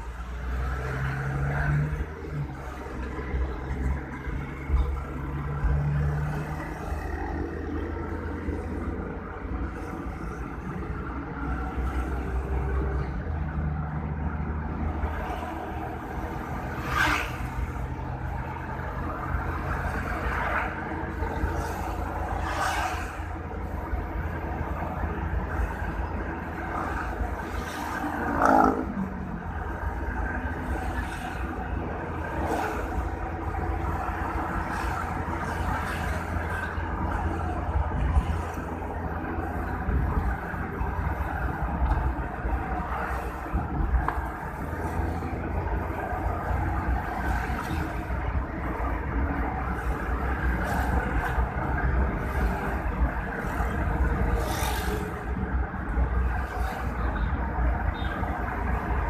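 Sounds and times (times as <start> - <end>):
vehicle engine rumble on road: 0.0 - 59.0.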